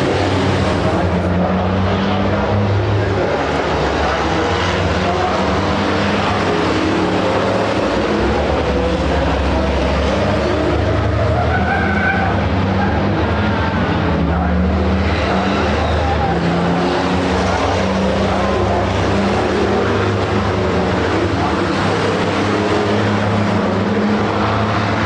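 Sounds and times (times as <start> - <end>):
diesel truck engines droning: 0.0 - 25.0.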